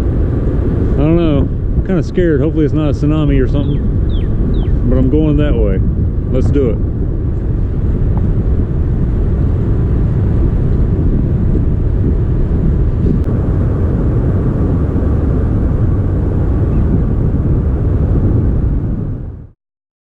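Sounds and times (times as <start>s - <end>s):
wind buffeting microphone: 0.0s - 19.6s.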